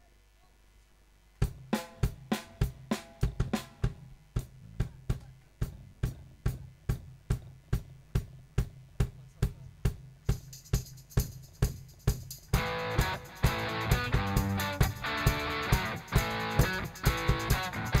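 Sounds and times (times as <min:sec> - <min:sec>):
kick and snare drum beat: 0:01.3 - 0:18.0.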